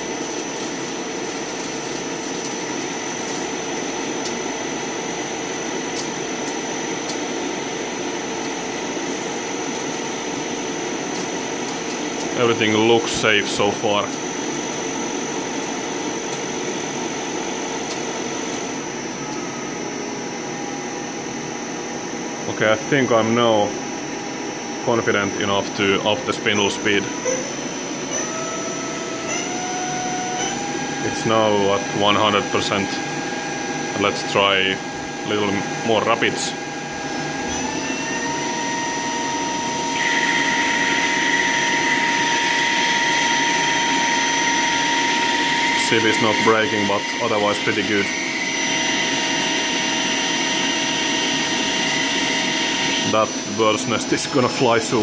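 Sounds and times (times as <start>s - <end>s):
lathe mechanical whir: 0.0s - 55.0s
thin high whine: 0.0s - 55.0s.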